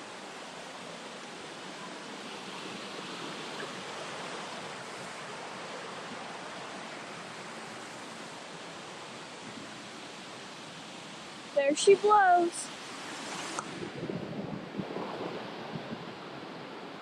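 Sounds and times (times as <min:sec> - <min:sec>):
creek and waterfall rushing: 0:00.0 - 0:14.0.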